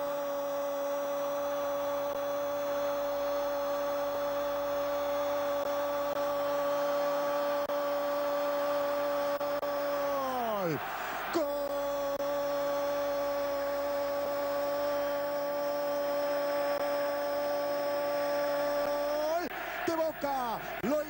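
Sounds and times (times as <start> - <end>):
steady pitched hum: 0.0 - 21.0.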